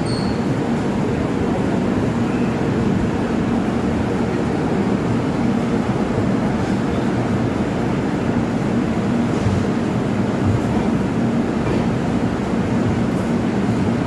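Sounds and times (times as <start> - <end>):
passenger train rumbling: 0.0 - 14.0.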